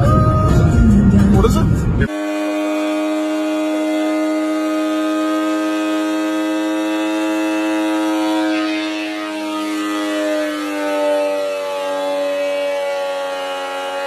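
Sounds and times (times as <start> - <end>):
thickness planer motor whine: 2.1 - 14.0.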